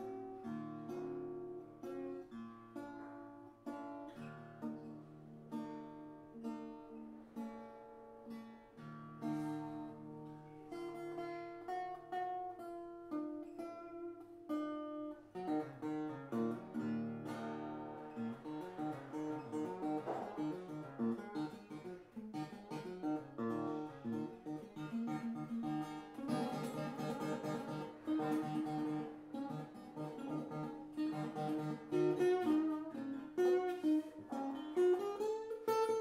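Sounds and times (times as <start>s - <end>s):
acoustic guitar solo: 0.0s - 36.0s.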